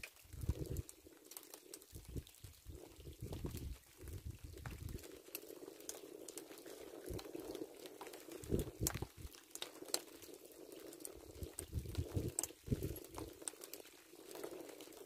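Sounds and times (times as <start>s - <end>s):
light drizzle pattering: 0.0s - 15.0s.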